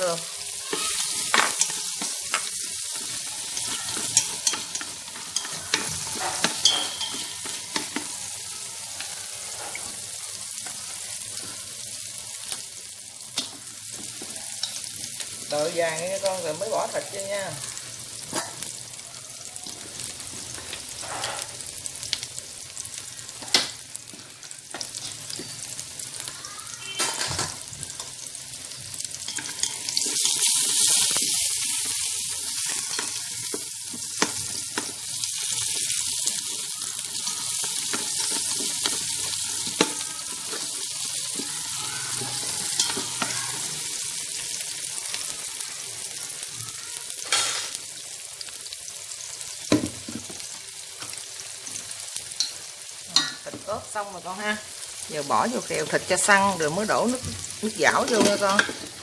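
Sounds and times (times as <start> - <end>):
aromatics sizzling in hot oil: 0.0 - 59.0.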